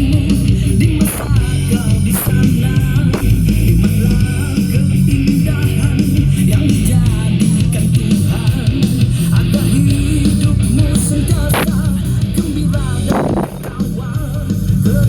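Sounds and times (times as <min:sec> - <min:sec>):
loud rock music with guitar: 0:00.0 - 0:15.0.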